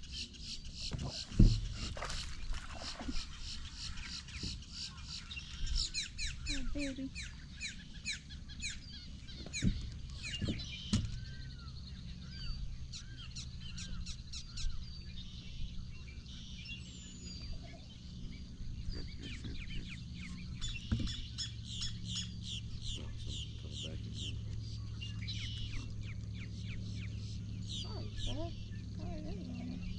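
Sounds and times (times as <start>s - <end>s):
birds chirping: 0.0s - 29.9s
low steady hum: 0.0s - 29.9s.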